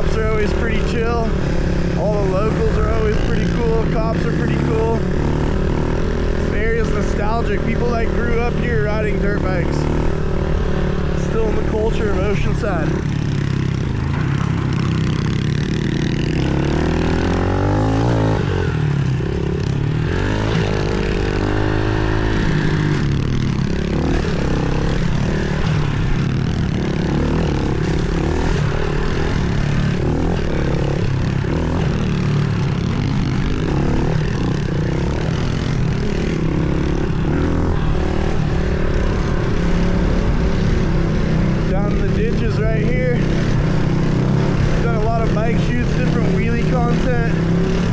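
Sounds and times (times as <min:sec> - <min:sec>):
pit bike engine running: 0:00.0 - 0:47.9.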